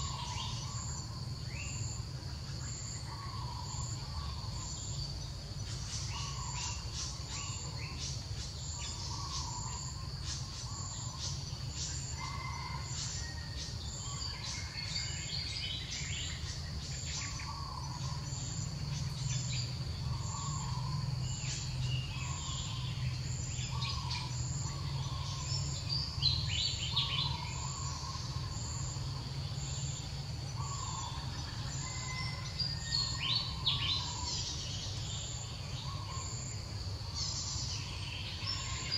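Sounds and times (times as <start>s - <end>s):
bird chirps: 0.0s - 38.9s
insect drone with high pulse: 0.0s - 38.9s.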